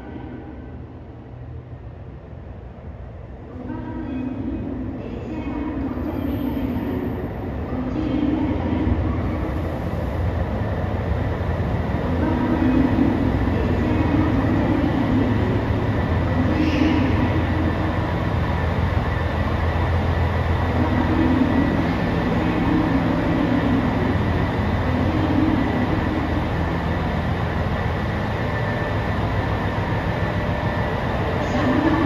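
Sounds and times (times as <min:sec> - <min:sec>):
diesel train engines humming: 0:00.0 - 0:32.0.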